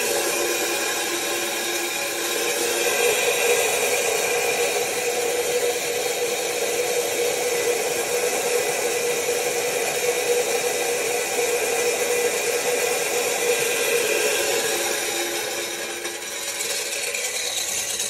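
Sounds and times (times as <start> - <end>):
grain mill grinding: 0.0 - 18.0.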